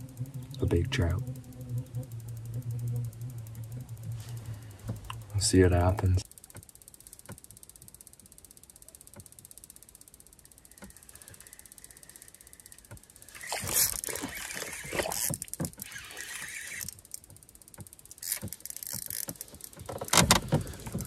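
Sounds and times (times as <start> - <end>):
fishing reel clicks: 0.0 - 21.0
rough mechanical reel noise: 0.0 - 21.0.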